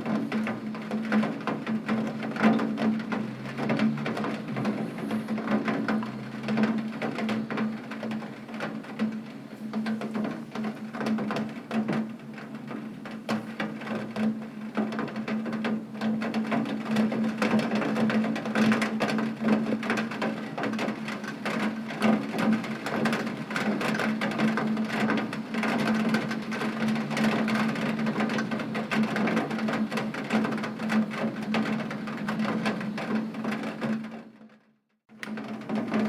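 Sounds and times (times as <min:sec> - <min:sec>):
heavy rain on a window: 0:00.0 - 0:36.0.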